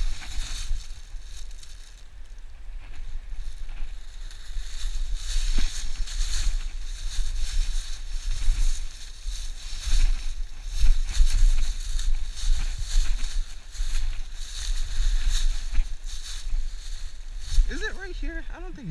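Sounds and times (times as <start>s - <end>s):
footsteps crunching dry leaves: 0.0s - 18.9s
low wind rumble: 0.0s - 18.9s.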